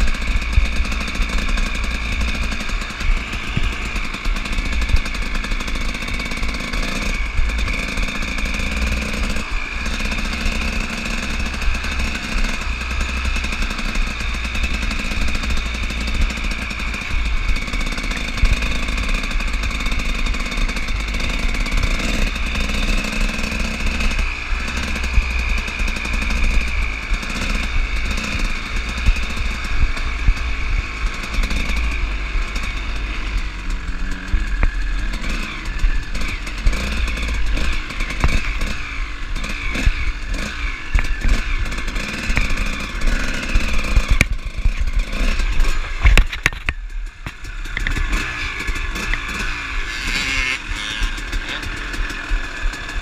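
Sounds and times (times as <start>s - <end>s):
dirt bike engine blipping: 0.0s - 53.0s.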